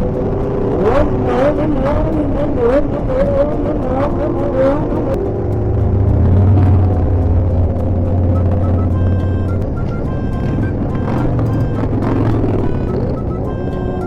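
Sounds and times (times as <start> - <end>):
background music with beat: 0.0 - 14.0
motorcycle engine running: 0.0 - 14.0.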